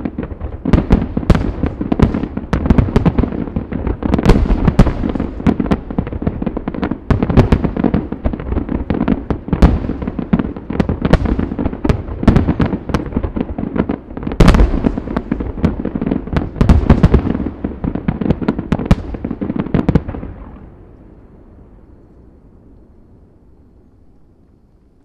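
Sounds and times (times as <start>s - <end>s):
fireworks bursting: 0.0s - 20.9s.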